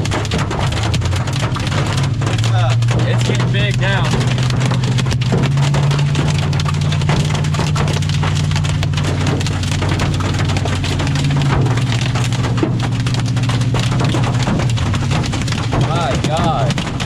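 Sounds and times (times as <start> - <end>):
hail pelting vehicle roof: 0.0 - 17.0
steady low drone: 0.0 - 17.0.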